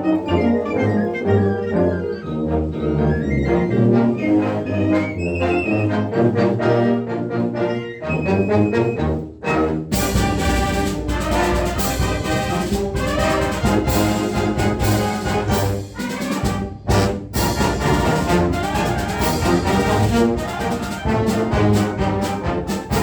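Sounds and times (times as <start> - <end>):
brass ensemble playing ragtime march: 0.0 - 23.0.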